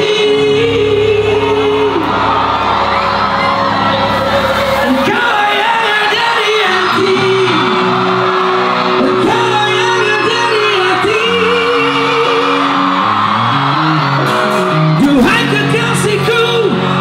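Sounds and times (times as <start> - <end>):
vocalist singing into a microphone: 0.0 - 3.2, 3.8 - 17.0
pop band playing: 0.0 - 17.0.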